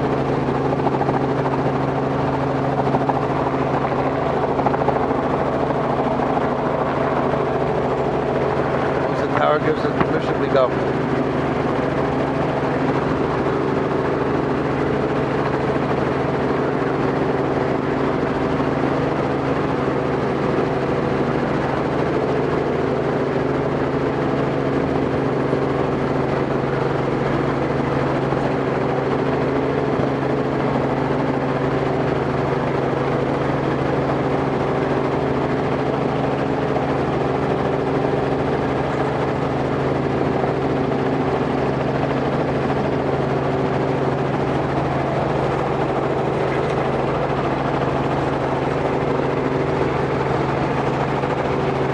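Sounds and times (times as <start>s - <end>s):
helicopter engine and rotors: 0.0s - 51.9s.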